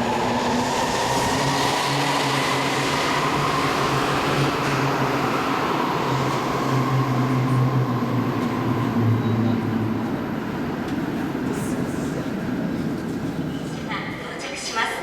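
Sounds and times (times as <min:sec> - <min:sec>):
train low hum and rumble: 0:00.0 - 0:14.3.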